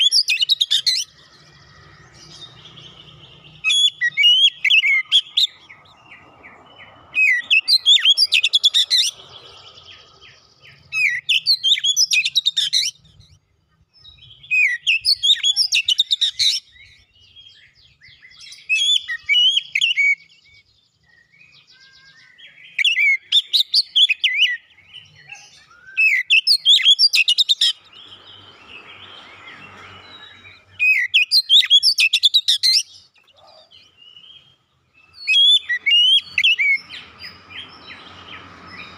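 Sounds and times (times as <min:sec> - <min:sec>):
songbird whistling song: 0:00.0 - 0:38.9.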